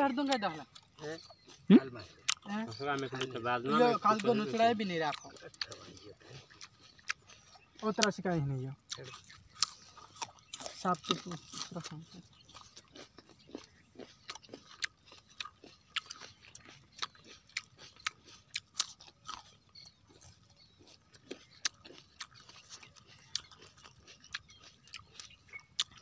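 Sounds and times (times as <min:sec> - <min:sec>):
crunchy food being chewed: 0:00.0 - 0:26.0.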